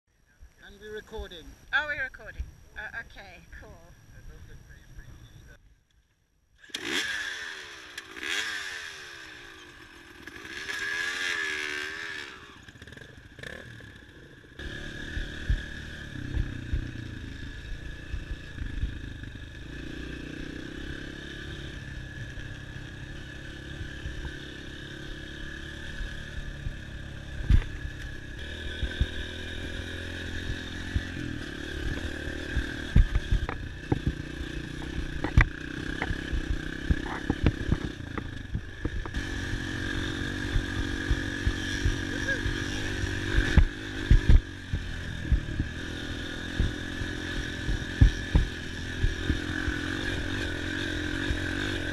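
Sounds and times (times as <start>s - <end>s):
dirt bike engine revving: 6.6s - 51.9s.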